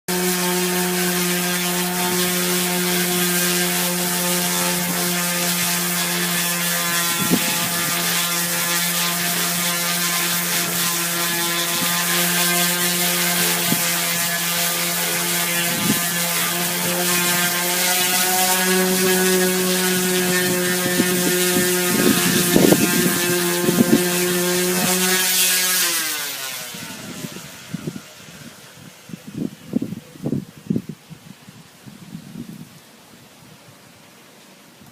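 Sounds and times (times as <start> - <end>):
power sander grinding fiberglass: 0.0 - 30.6.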